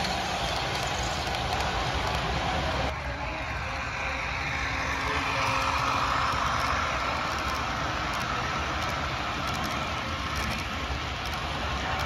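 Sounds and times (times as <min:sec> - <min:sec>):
model train wheels rumbling on rails: 0:00.0 - 0:12.0.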